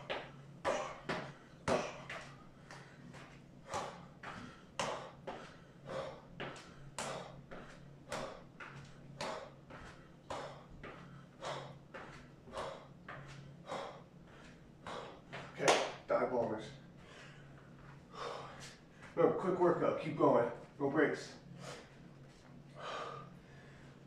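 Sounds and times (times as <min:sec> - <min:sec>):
man breathing: 0:00.0 - 0:15.6, 0:16.8 - 0:19.2, 0:21.4 - 0:24.0
faint low hum: 0:00.0 - 0:24.0.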